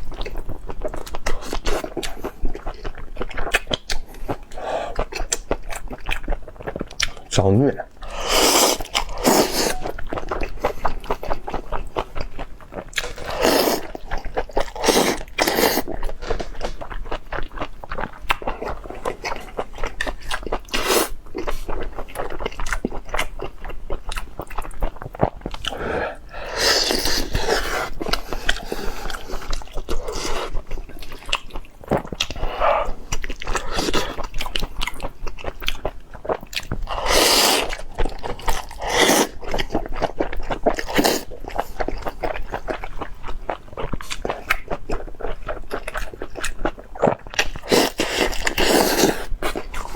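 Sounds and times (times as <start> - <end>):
person chewing and crunching: 0.0 - 49.9.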